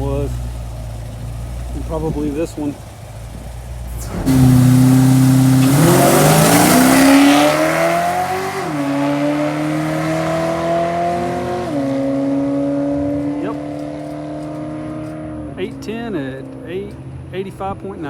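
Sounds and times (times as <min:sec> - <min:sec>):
drag car engine accelerating: 0:00.0 - 0:18.0.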